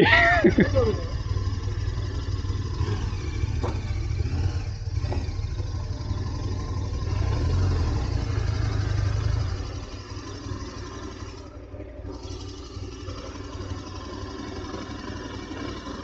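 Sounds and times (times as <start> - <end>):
motorcycle engine low rumble: 0.0 - 16.0.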